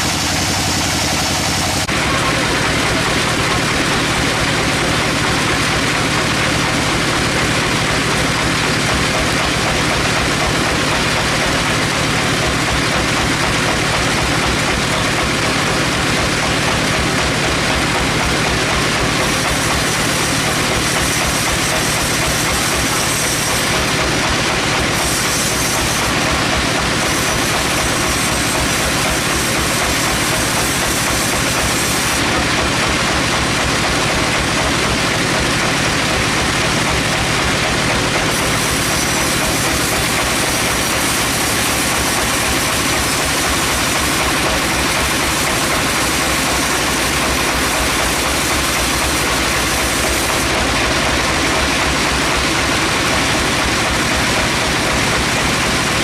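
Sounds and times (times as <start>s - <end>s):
sawmill machinery running: 0.0s - 56.0s.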